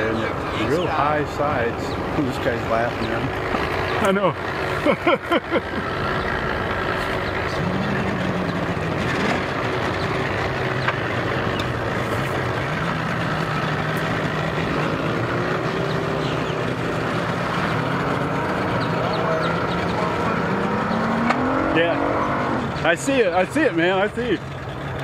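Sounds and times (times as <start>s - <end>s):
outboard motor running: 0.0s - 25.0s
water churning: 0.0s - 25.0s.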